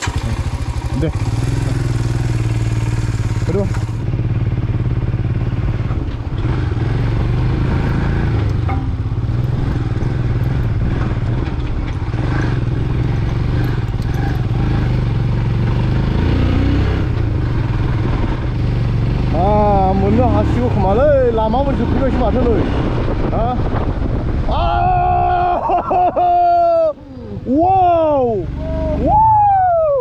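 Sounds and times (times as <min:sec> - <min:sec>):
motorcycle engine running: 0:00.0 - 0:24.5, 0:27.0 - 0:29.6.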